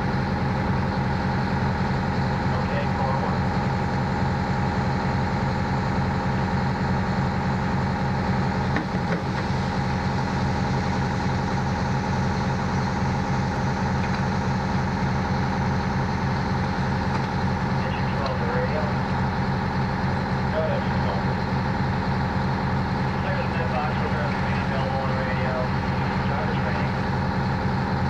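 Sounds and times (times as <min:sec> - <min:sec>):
fire engine motor idling: 0:00.0 - 0:28.0.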